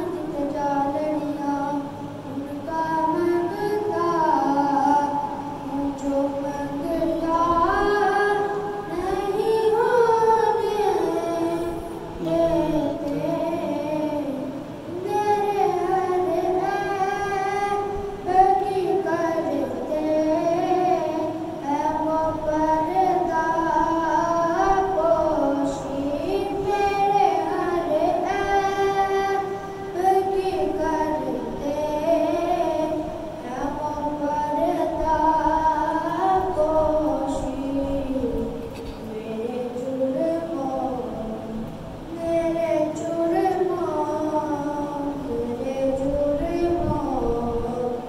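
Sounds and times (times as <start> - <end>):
boy singing solo: 0.0 - 48.0.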